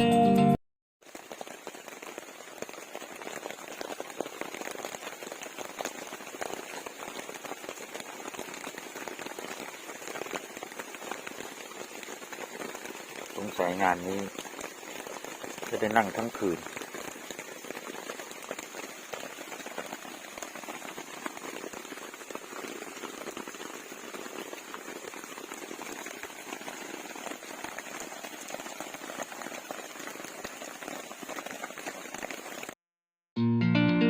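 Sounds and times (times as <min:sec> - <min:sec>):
rain pattering: 0:01.0 - 0:32.8.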